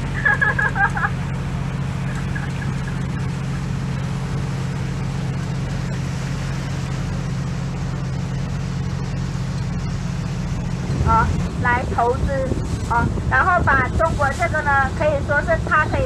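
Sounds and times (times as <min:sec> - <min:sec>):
boat engine droning: 0:00.0 - 0:16.0
rushing water noise: 0:00.0 - 0:16.0.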